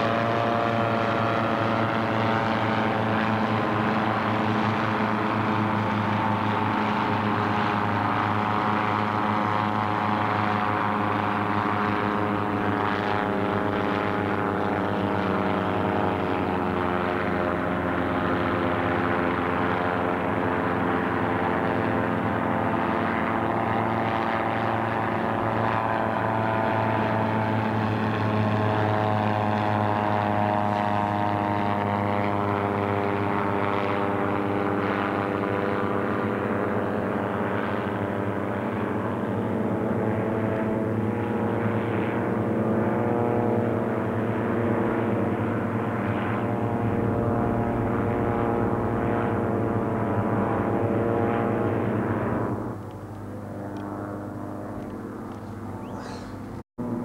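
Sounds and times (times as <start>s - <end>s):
gyroplane engines droning: 0.0s - 33.6s, 34.4s - 57.0s.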